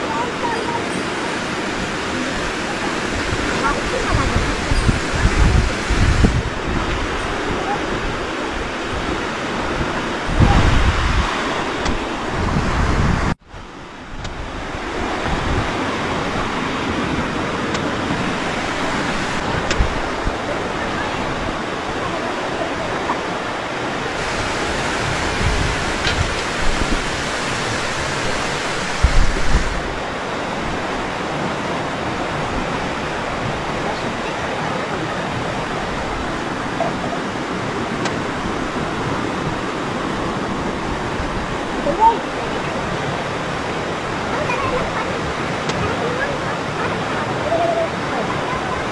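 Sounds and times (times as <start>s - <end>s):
river rushing: 0.0s - 48.9s
wind buffeting microphone: 0.0s - 48.9s.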